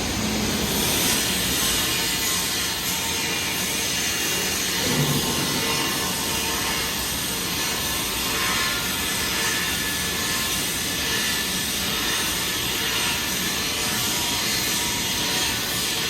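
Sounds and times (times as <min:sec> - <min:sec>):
welding arc hissing and crackling: 0:00.0 - 0:16.0.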